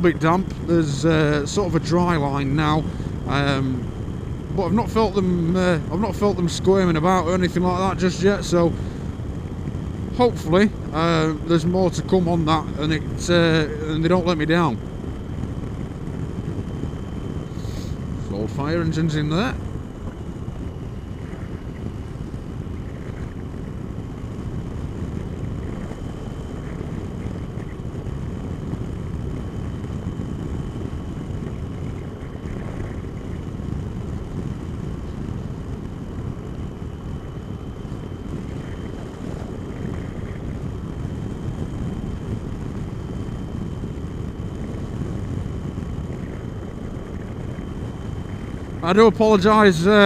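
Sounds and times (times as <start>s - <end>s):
faint high whine: 0.0s - 50.0s
wind rushing over microphone: 0.0s - 50.0s.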